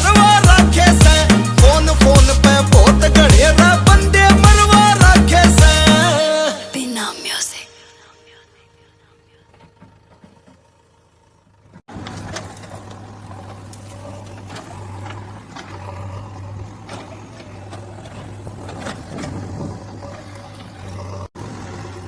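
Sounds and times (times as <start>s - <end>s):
excavator diesel engine: 0.0s - 6.7s, 8.1s - 22.0s.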